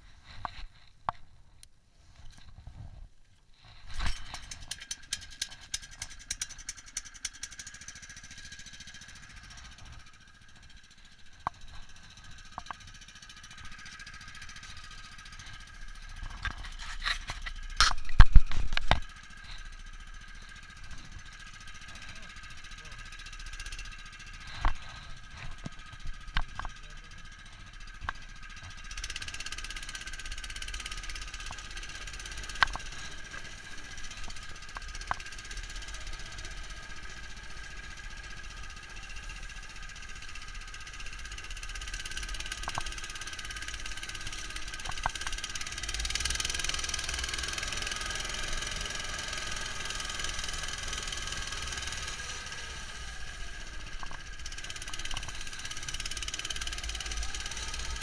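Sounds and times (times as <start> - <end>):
muffled tractor engine running: 0.0 - 58.0
sharp clicks and rattles: 0.1 - 58.0.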